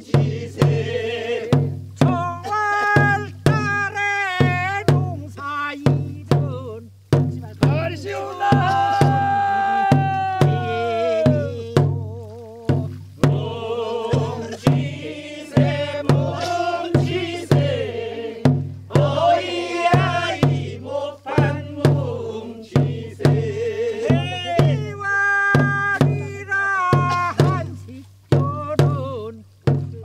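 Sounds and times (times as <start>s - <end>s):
drums beating: 0.0s - 30.0s
voices singing: 0.0s - 30.0s.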